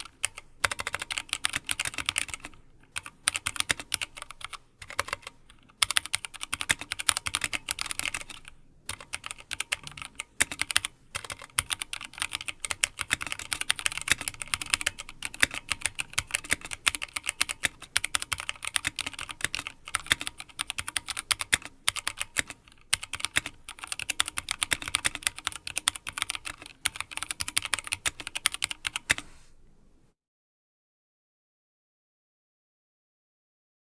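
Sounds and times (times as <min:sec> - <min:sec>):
mechanical keyboard typing: 0:00.0 - 0:29.3.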